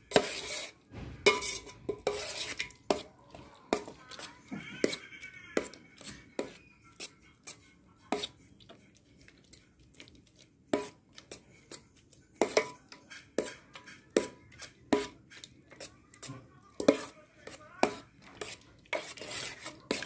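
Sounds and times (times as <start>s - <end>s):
spoon scraping steel bowl: 0.0s - 8.8s, 10.7s - 20.0s.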